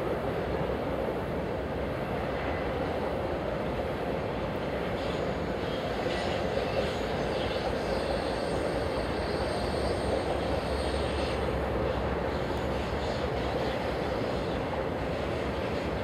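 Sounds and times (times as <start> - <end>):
freight train rolling past: 0.0 - 16.0
steel wheels rumbling on rail: 0.0 - 16.0.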